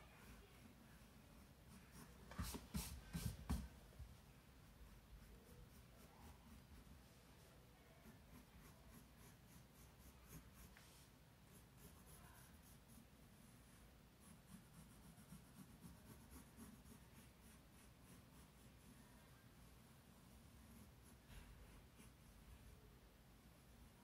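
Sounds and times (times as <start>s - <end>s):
pencil scratching on paper: 0.2s - 3.7s, 4.6s - 22.8s.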